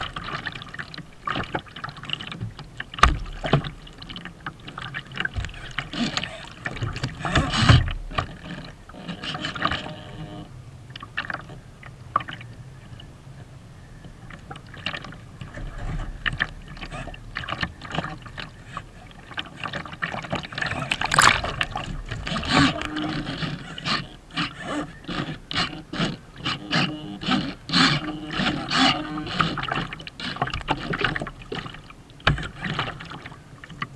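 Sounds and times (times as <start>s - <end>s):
water splashing against a hull: 0.0s - 33.9s.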